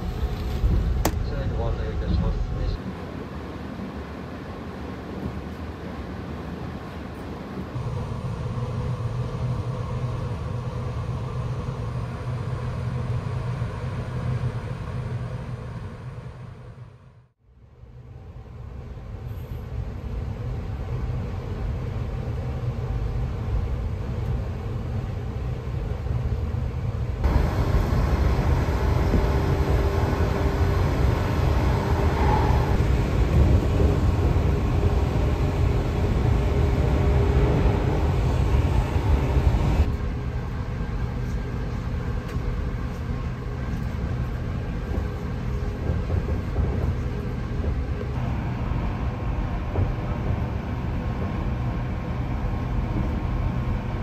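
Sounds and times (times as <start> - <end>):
train running rumble: 0.0 - 16.7, 18.0 - 54.0.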